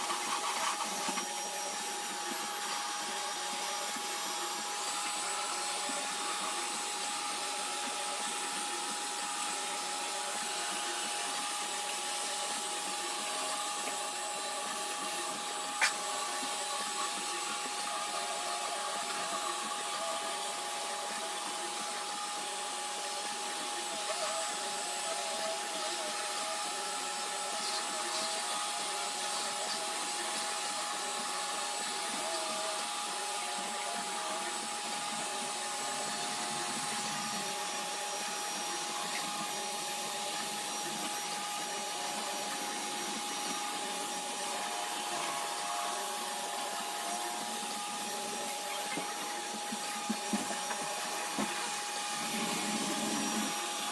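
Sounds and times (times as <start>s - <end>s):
robot vacuum running: 0.0s - 53.9s.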